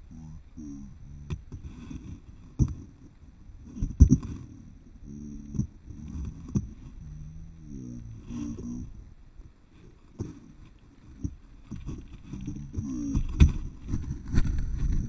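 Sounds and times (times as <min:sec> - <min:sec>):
short low hums: 0:00.0 - 0:15.0.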